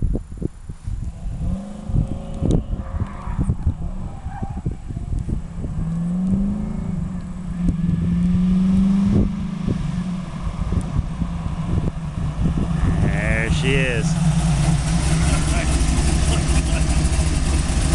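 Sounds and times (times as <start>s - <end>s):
wind buffeting on microphone: 0.0s - 16.2s
car engine revving: 1.1s - 17.9s.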